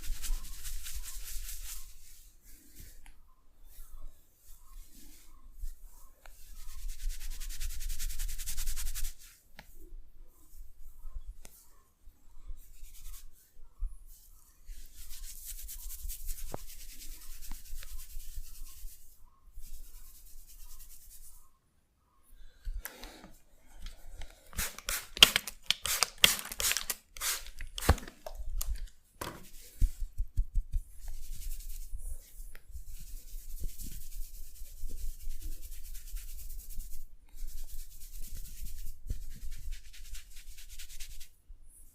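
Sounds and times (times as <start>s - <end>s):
hands rubbing hair and skin: 0.0s - 3.1s, 4.5s - 9.8s, 12.6s - 13.4s, 14.1s - 21.5s, 23.0s - 41.3s.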